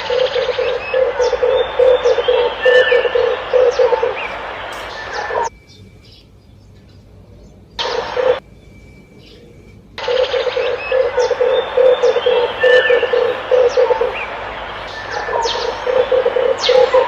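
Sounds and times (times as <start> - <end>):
dove cooing: 0.0 - 5.5, 7.8 - 8.4, 9.3 - 17.0
small birds chirping: 0.0 - 17.0.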